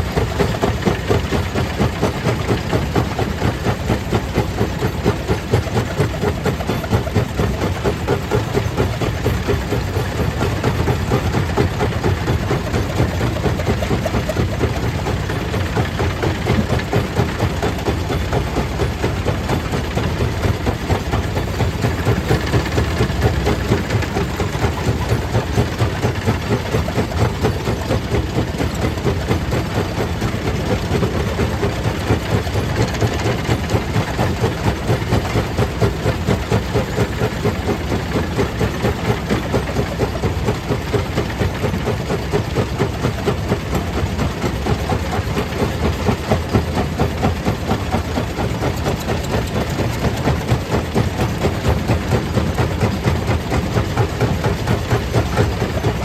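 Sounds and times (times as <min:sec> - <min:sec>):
stone crusher machinery pulsing: 0:00.0 - 0:56.0.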